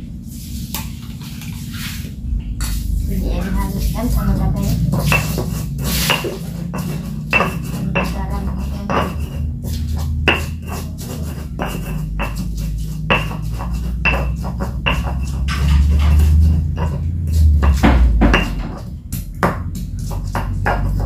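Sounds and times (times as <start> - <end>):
pestle knocking in a mortar: 3.4 - 21.0.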